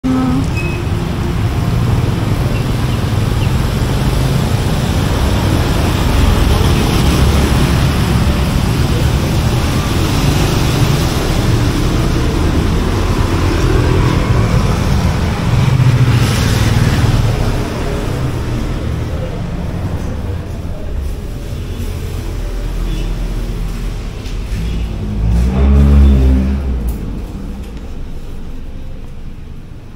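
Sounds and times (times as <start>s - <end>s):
traffic engine hum: 0.0s - 29.9s.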